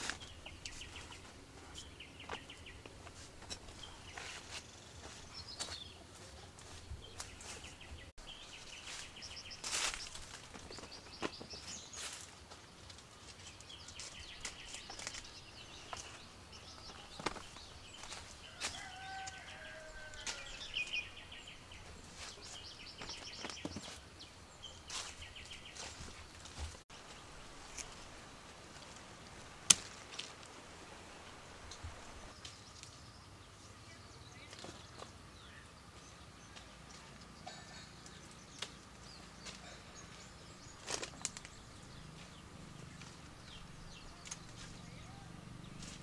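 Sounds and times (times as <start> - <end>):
birds chirping in trills: 0.0 - 27.1, 31.0 - 46.0.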